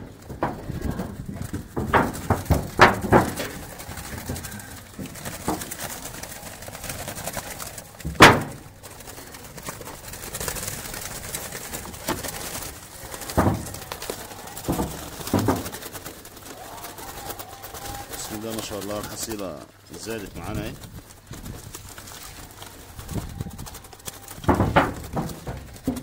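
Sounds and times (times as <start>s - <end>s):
doves cooing: 0.0s - 26.0s
short knocks and rustles: 0.0s - 26.0s.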